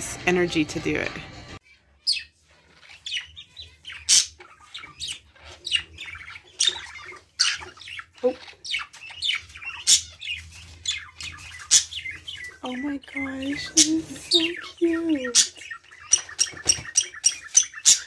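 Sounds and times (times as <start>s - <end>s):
parakeets chirping and squawking: 0.0s - 18.0s.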